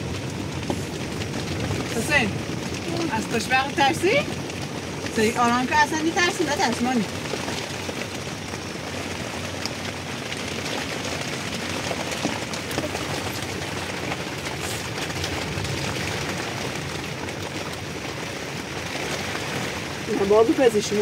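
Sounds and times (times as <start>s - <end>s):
heavy rain: 0.0s - 21.0s
storm wind: 0.0s - 21.0s.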